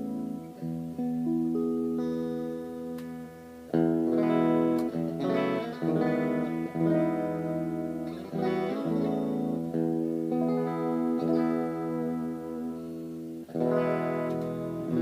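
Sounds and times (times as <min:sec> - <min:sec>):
electric guitar chords: 0:00.0 - 0:15.0.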